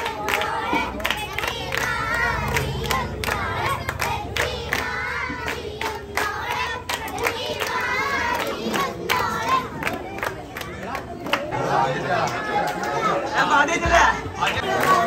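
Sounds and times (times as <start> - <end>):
crowd talking and calling out: 0.0 - 15.0.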